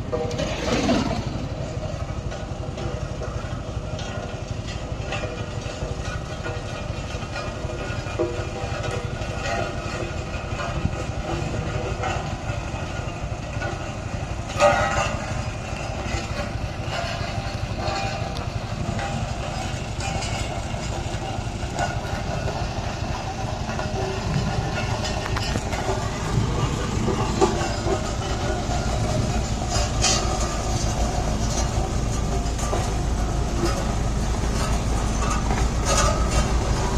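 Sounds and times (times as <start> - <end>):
rattling and clatter: 0.0 - 36.9
road roller rumbling: 0.0 - 36.9.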